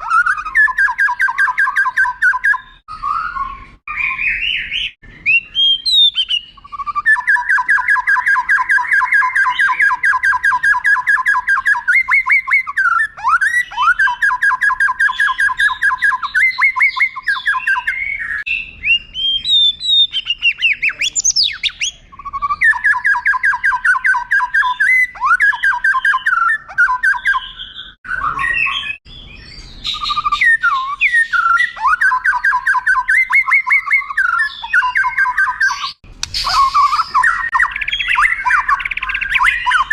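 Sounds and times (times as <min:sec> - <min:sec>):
songbird singing whistled phrases: 0:00.0 - 0:39.9.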